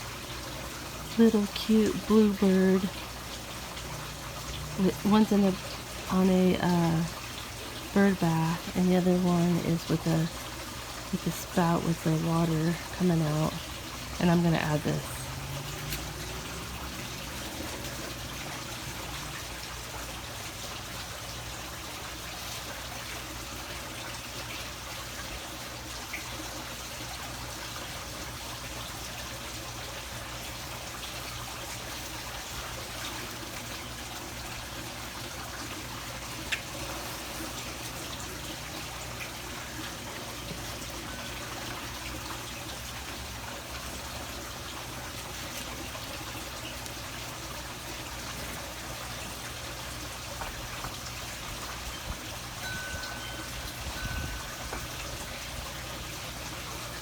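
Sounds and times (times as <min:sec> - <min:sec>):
running water trickling: 0:00.0 - 0:57.0.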